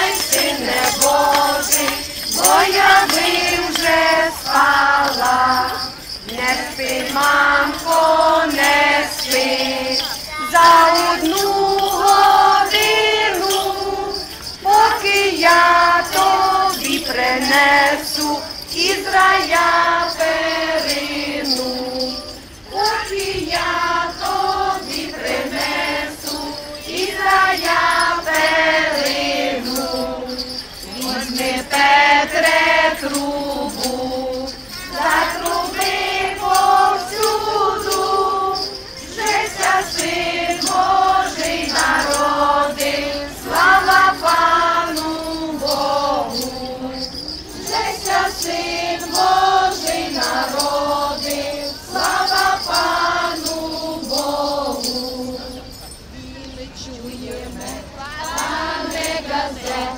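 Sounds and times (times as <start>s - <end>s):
children singing a carol: 0.0s - 59.9s
small bells jingling: 0.0s - 59.9s.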